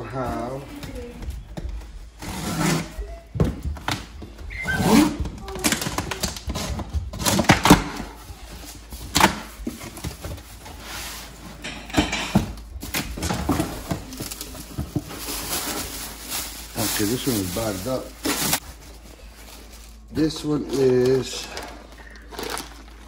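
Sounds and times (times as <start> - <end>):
plastic wrapping rustling: 0.0 - 23.0
cardboard rustling and scraping: 0.2 - 11.7, 12.6 - 23.0.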